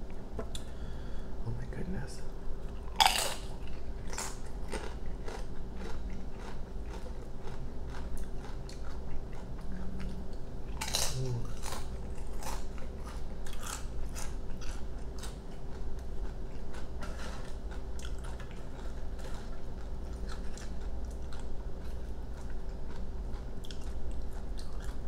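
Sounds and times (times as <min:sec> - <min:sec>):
chewing crunchy chips: 0:02.6 - 0:25.0.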